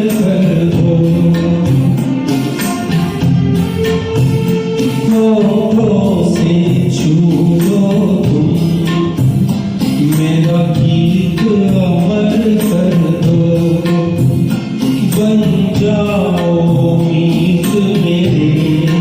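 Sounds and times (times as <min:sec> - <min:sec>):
flowing melody over steady beat: 0:00.0 - 0:19.0.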